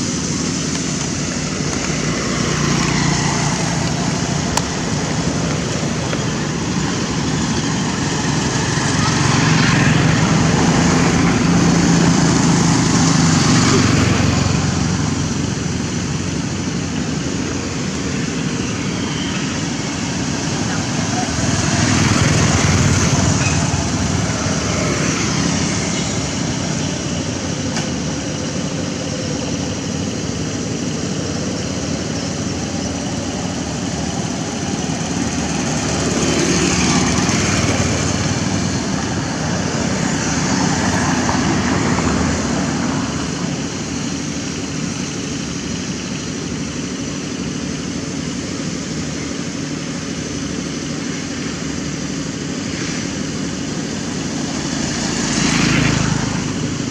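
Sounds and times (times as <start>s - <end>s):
vehicles passing by: 0.0s - 56.9s.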